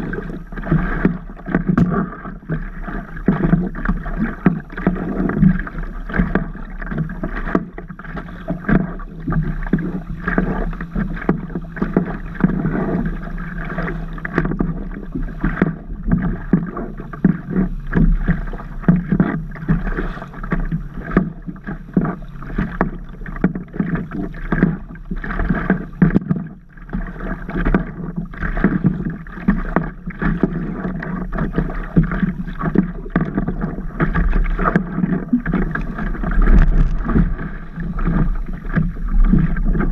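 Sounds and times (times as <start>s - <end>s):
water slapping against paddleboard: 0.0s - 39.9s.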